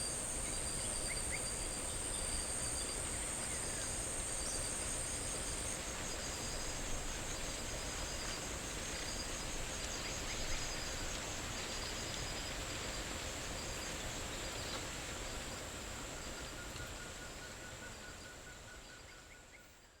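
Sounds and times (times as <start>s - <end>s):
insect chirping call: 0.0s - 20.0s.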